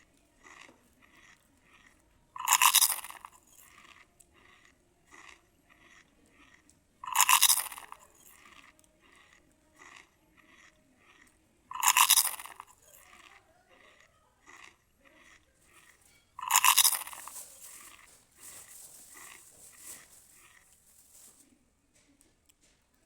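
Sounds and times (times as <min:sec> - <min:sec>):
person chewing: 0:00.0 - 0:21.4
crunchy bites: 0:00.4 - 0:21.3.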